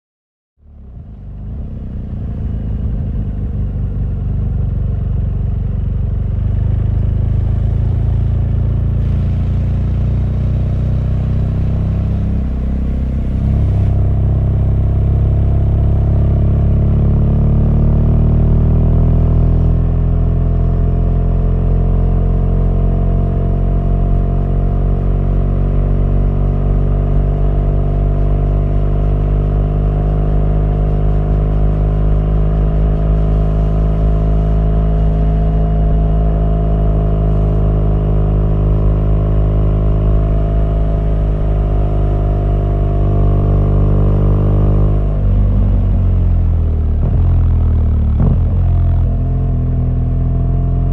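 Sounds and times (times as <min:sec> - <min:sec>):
motorcycle engine running: 0:00.6 - 0:50.9.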